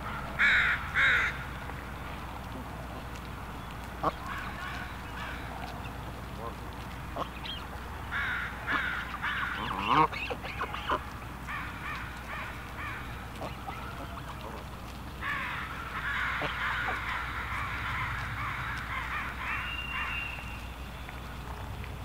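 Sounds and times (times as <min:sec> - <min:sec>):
geese calling: 0:00.0 - 0:01.8, 0:02.5 - 0:21.6.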